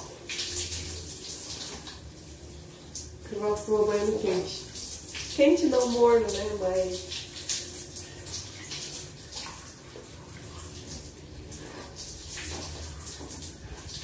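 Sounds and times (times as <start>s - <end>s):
shower water spraying: 0.0s - 14.0s
water splashes: 0.0s - 14.0s.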